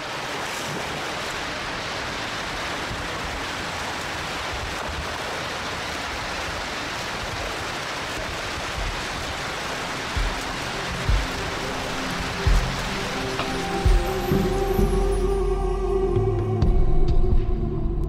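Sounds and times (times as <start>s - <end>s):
rushing water hiss: 0.0s - 16.3s.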